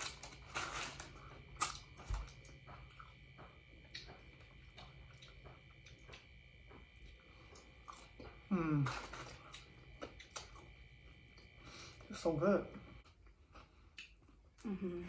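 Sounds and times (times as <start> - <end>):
people chewing: 0.0 - 12.1, 13.1 - 15.0
faint steady hum: 0.0 - 15.0.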